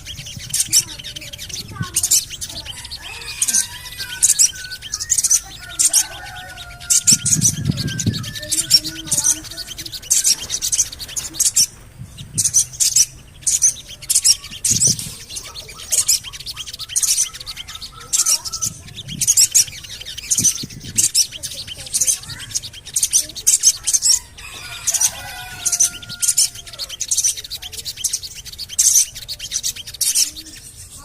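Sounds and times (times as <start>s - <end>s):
high bird chirps: 0.0s - 31.0s.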